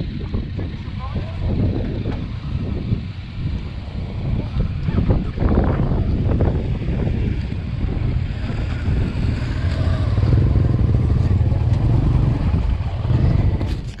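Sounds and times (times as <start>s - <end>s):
motorcycle engine low rumble: 0.0s - 14.0s
wind buffeting microphone: 0.0s - 14.0s.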